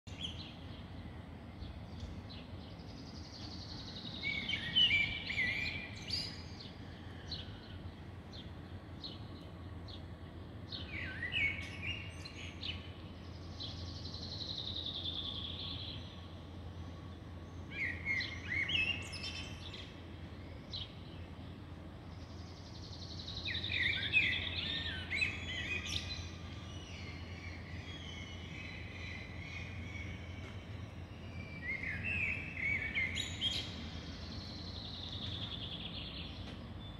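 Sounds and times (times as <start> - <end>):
birds chirping: 0.1 - 36.9
low background hum: 0.1 - 36.9.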